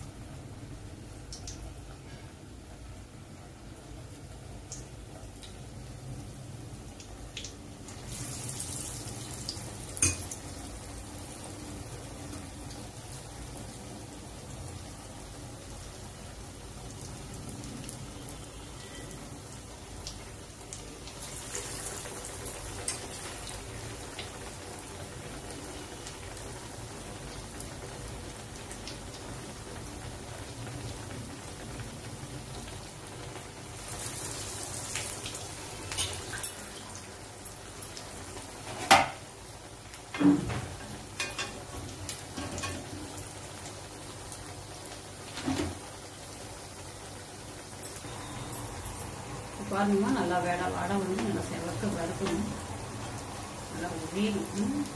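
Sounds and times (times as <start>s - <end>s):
fritters sizzling in hot oil: 0.0s - 54.9s.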